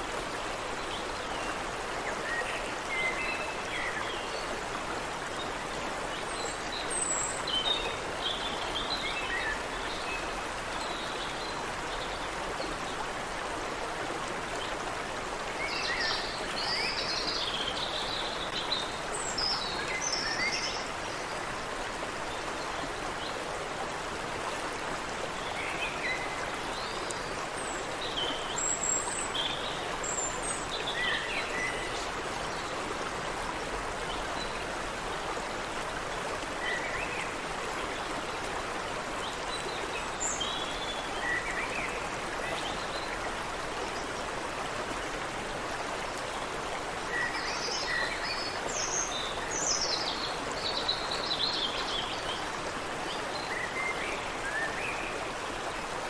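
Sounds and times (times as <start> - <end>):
stream running over cascades: 0.0 - 56.0.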